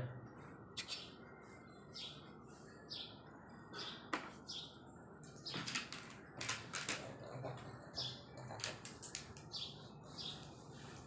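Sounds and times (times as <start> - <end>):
birds chirping: 0.3 - 10.9.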